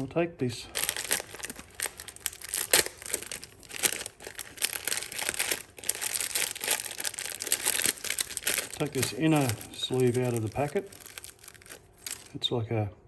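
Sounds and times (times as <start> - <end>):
plastic packet crinkling: 0.7 - 12.3.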